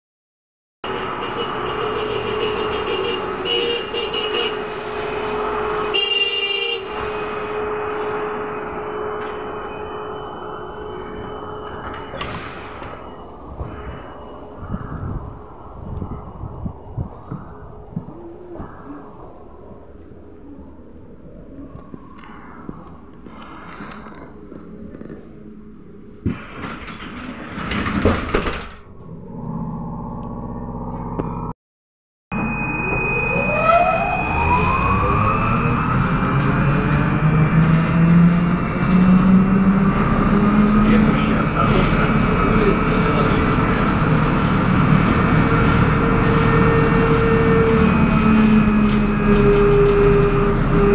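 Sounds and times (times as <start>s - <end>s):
trolleybus electric whine: 0.8s - 31.5s, 32.3s - 50.9s.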